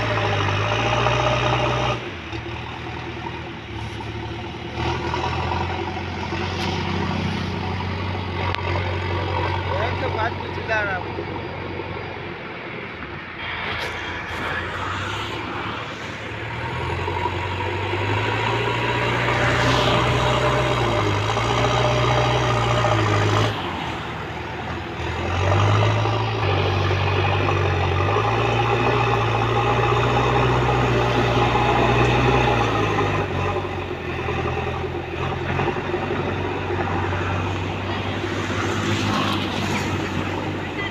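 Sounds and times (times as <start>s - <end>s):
diesel engine revving under load: 0.0s - 40.9s.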